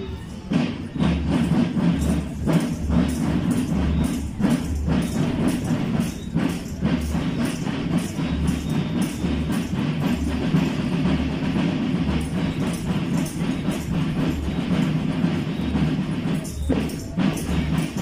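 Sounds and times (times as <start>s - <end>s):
marching drums: 0.0s - 18.0s.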